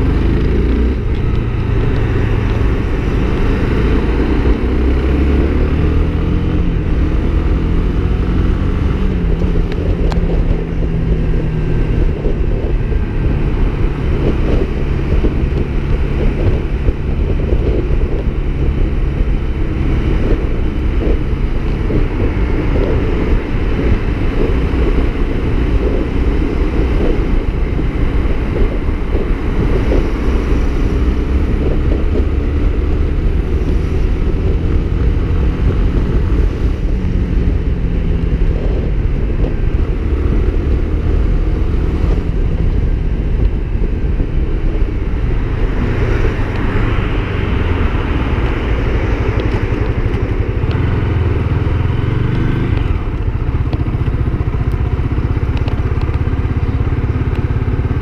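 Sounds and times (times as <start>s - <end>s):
motorcycle engine running: 0.0s - 58.0s
road noise: 0.0s - 58.0s
wind noise: 0.0s - 58.0s.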